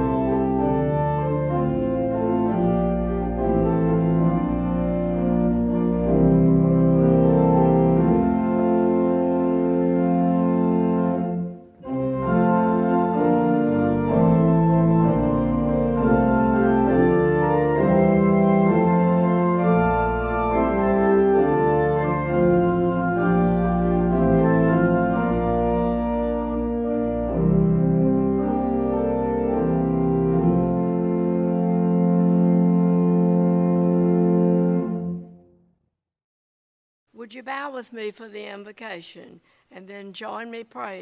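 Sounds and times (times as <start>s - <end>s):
church organ playing a hymn: 0.0s - 35.5s.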